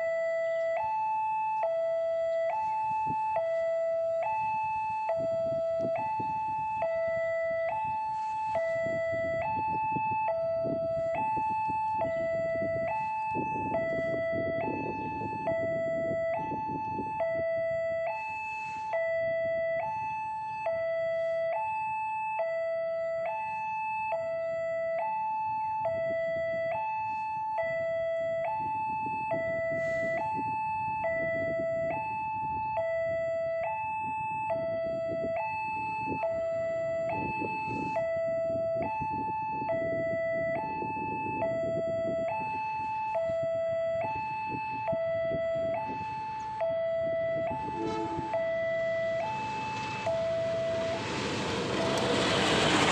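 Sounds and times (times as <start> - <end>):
level crossing two-tone alarm: 0.0 - 52.9
low rumble of vehicles: 0.0 - 52.9.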